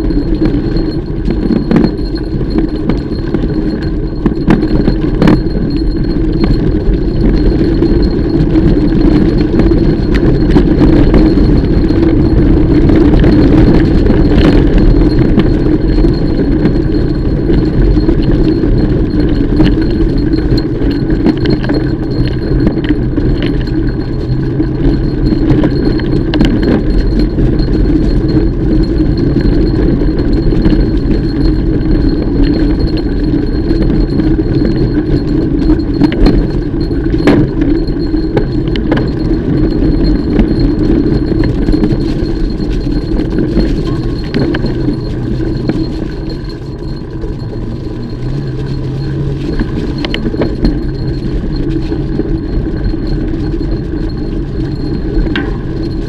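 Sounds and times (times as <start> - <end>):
bike parts rattling and clinking: 0.0 - 56.0
bike tyres rumbling on ground: 0.0 - 56.0.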